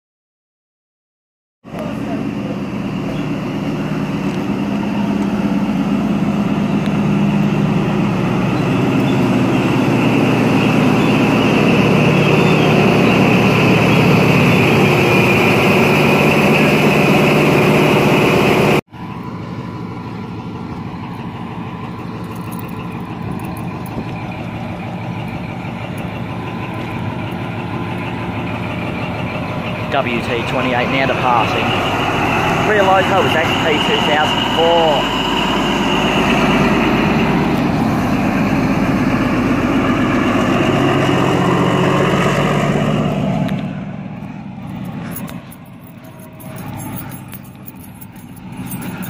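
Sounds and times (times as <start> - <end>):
diesel train engine drone: 1.7 - 49.0
passing train running: 1.7 - 49.0.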